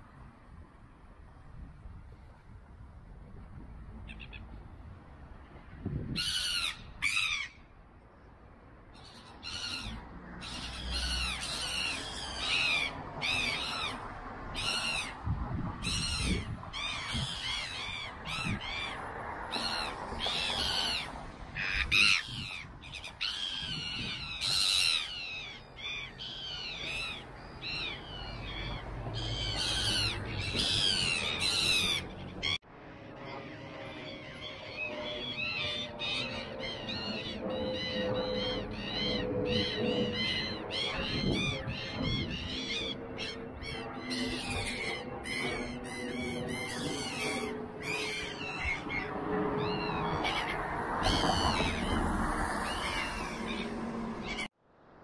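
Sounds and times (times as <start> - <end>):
birds calling: 4.0 - 4.5, 8.9 - 15.2, 15.8 - 32.6, 33.3 - 54.5.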